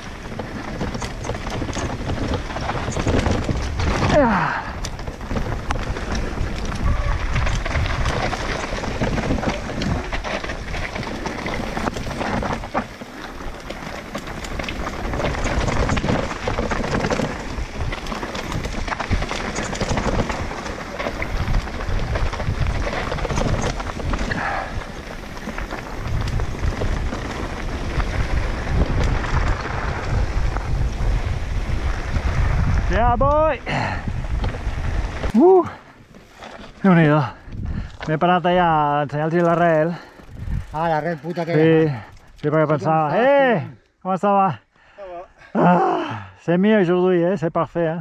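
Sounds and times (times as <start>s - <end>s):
wind rushing over microphone: 0.0s - 35.9s, 37.1s - 38.7s, 40.0s - 40.9s
bike rattling over bumps: 0.0s - 43.4s
bike tyres rolling over dirt: 0.0s - 43.7s.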